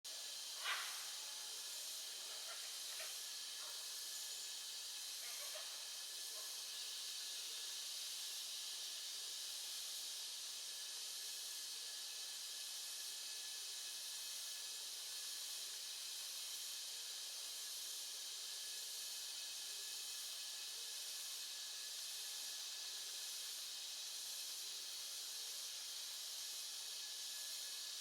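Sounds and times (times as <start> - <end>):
insect chorus hiss: 0.1 - 28.0
thin steady tone: 0.1 - 28.0.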